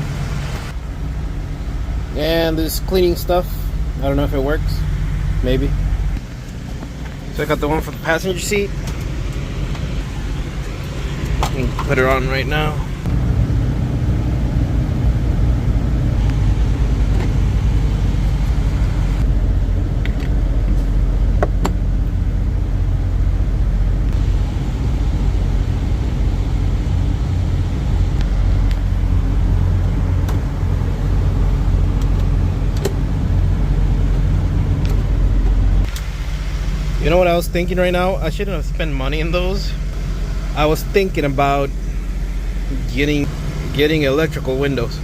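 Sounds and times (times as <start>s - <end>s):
diesel truck engine rumbling: 0.0s - 45.0s.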